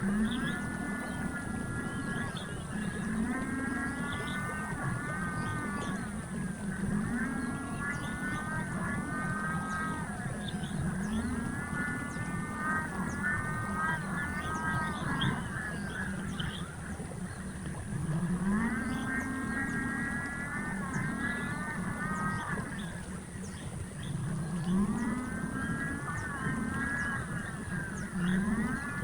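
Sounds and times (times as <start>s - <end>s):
bird calling wavering cries: 0.0s - 29.0s.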